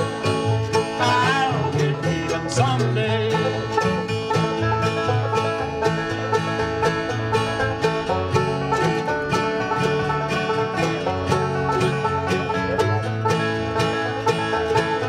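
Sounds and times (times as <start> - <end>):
banjo picking: 0.0 - 15.0
bluegrass string band playing: 0.0 - 15.0.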